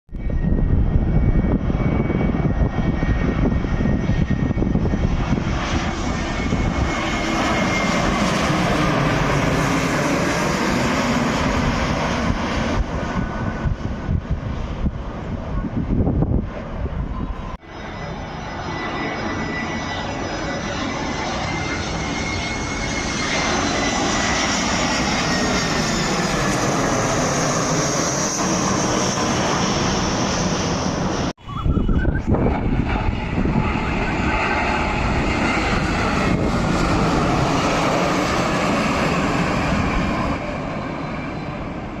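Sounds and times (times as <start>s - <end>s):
jet engines roaring with whine: 0.1s - 42.0s.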